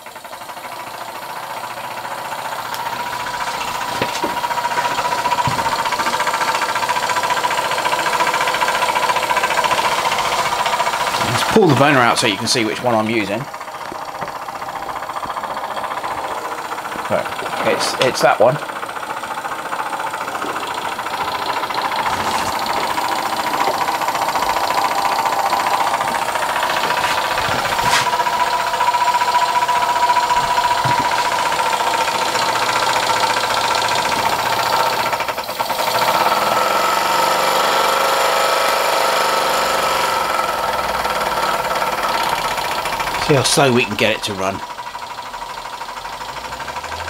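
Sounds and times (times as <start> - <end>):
gas burner hissing: 0.0 - 47.0
model steam engine chuffing: 0.0 - 47.0.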